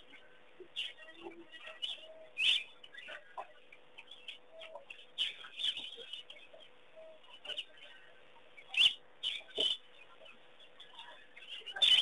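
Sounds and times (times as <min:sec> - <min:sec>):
birds chirping: 0:00.0 - 0:12.0
faint steady hum: 0:00.0 - 0:12.0.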